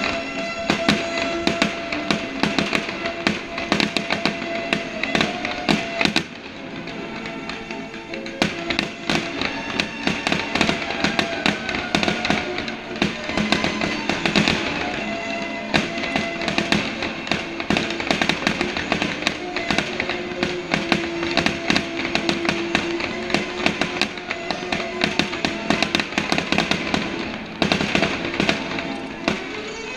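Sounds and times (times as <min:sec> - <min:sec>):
fireworks bursting and crackling: 0:00.0 - 0:29.9
music with sustained tones: 0:00.0 - 0:29.9.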